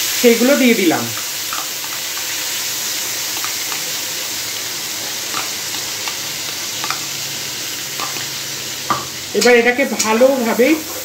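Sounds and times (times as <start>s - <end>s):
onion paste sizzling in oil: 0.0s - 11.0s.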